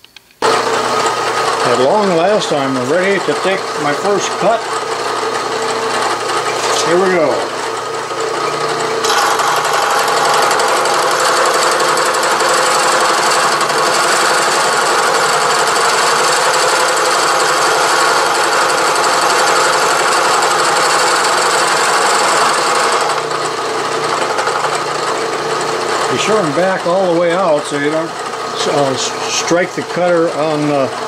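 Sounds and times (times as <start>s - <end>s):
cutter grinding metal: 0.4s - 31.0s
milling spindle humming: 0.4s - 31.0s.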